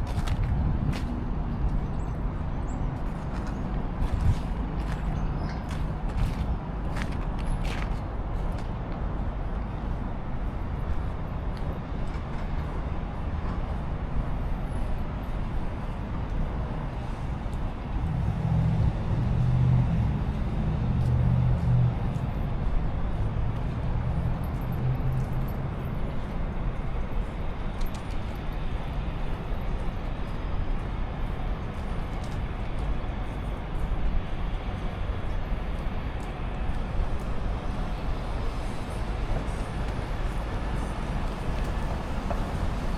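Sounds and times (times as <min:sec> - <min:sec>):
street traffic rumble: 0:00.0 - 0:42.9.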